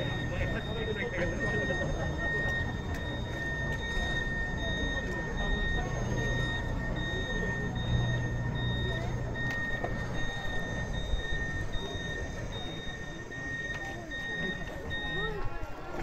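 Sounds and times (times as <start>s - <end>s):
crowd murmur: 0.0s - 16.0s
high warning beeps: 0.0s - 16.0s
low drive hum: 0.0s - 16.0s.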